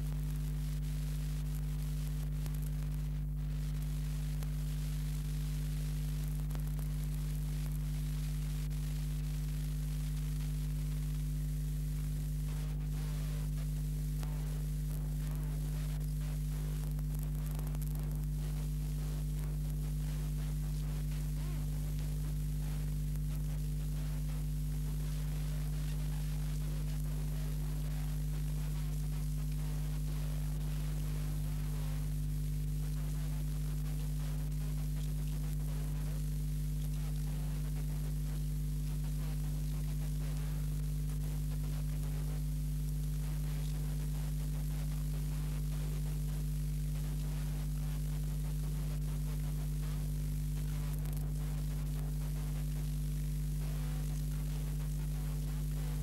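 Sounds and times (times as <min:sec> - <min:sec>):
constant hiss: 0:00.0 - 0:56.0
electrical mains hum: 0:00.0 - 0:56.0.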